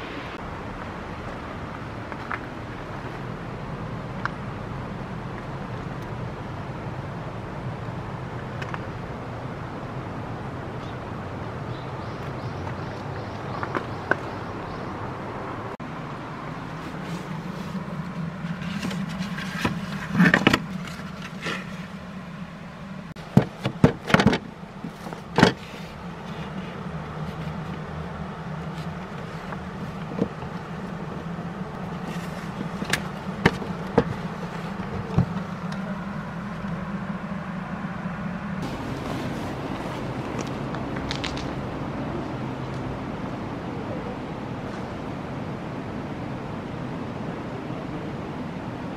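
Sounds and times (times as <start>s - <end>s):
engine humming: 0.0s - 48.9s.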